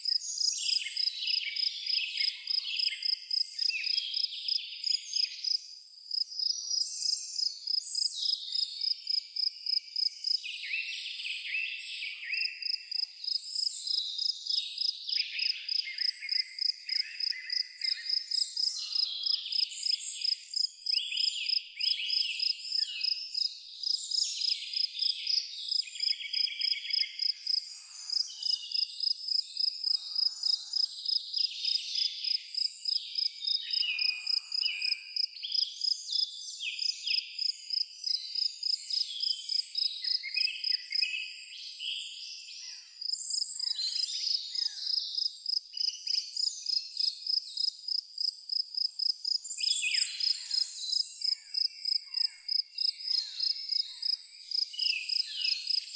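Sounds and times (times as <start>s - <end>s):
insect chirping in steady pulse: 0.0s - 10.8s, 12.3s - 41.5s, 42.1s - 55.9s
birds singing: 0.0s - 47.7s, 49.4s - 55.9s.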